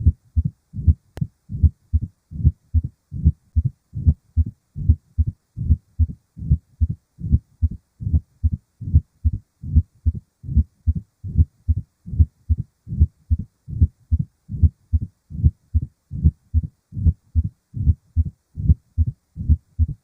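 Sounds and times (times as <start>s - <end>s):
heartbeat through a stethoscope: 0.0s - 20.0s.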